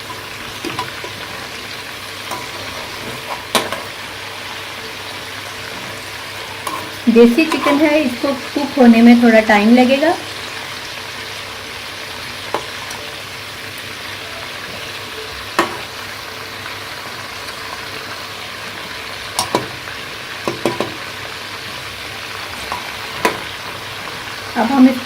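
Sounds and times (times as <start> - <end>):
chicken sizzling in oil: 0.0 - 25.0.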